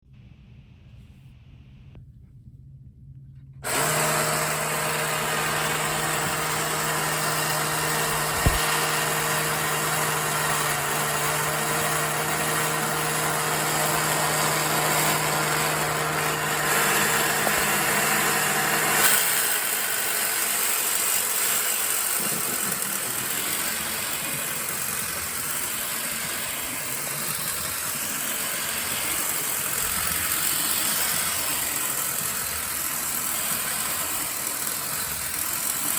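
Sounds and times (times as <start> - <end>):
toy airplane motor whirring: 3.6 - 35.9.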